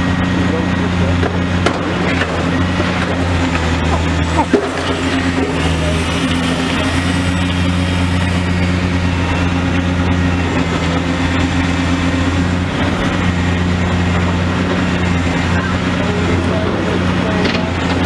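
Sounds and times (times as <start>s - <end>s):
engine droning steadily: 0.0s - 18.0s.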